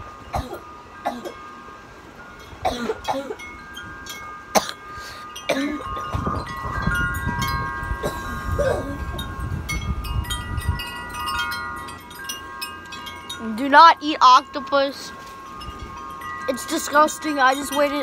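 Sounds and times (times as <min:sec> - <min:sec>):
metal wind chimes ringing: 0:00.0 - 0:18.0
wind rumbling on microphone: 0:01.9 - 0:18.0.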